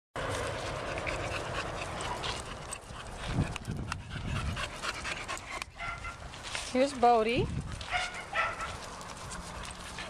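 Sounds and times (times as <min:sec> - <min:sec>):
dog panting: 0:00.6 - 0:06.2, 0:06.8 - 0:10.0.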